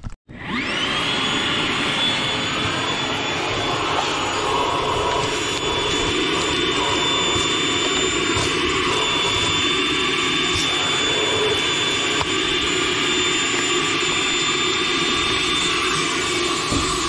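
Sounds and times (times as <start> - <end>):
shop vacuum running: 0.3 - 17.0.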